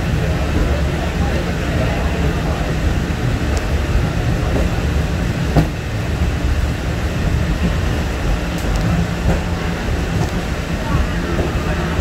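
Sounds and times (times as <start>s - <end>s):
funicular car rumbling: 0.0s - 12.0s.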